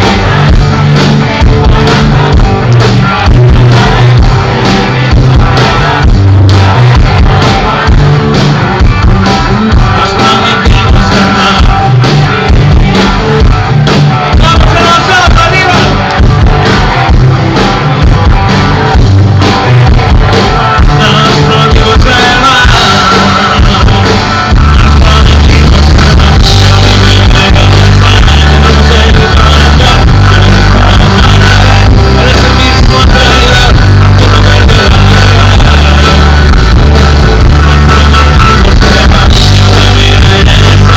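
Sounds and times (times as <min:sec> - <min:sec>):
person singing: 0:00.0 - 0:17.3, 0:19.8 - 0:40.9
rock band playing live: 0:00.0 - 0:40.9.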